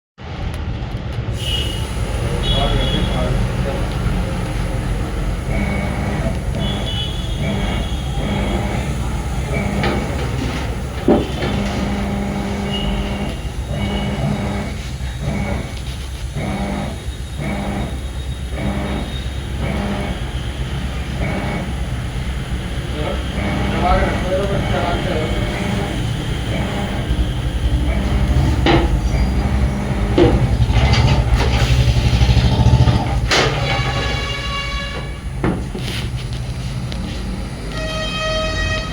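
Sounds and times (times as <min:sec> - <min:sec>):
vehicle engine rumbling: 0:00.2 - 0:38.9
steady horn-like tone: 0:01.4 - 0:38.9.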